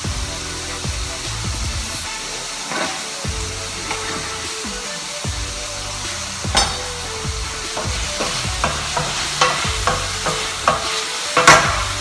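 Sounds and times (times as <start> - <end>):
utensil stirring a pan: 0.0 - 12.0
vegetables sizzling in oil: 0.0 - 12.0.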